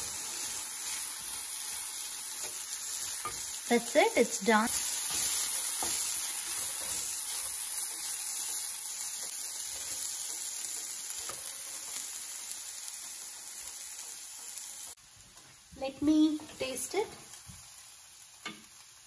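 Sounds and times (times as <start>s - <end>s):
carrots sizzling in a pan: 0.0s - 19.0s.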